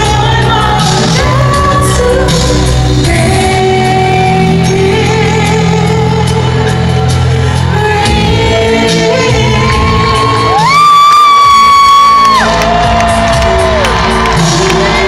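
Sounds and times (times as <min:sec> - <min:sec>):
heavy bass: 0:00.0 - 0:15.0
woman singing: 0:00.0 - 0:15.0.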